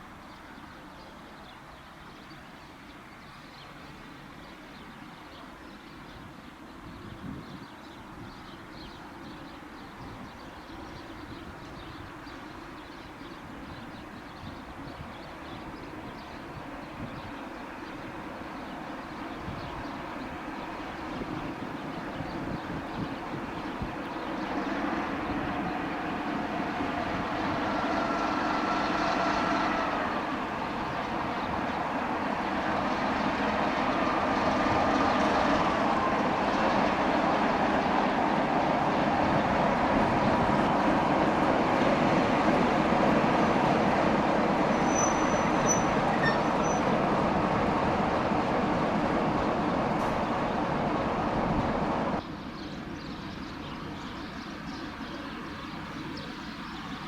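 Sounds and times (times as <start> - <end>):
train wheels rumbling on rails: 7.0 - 57.0.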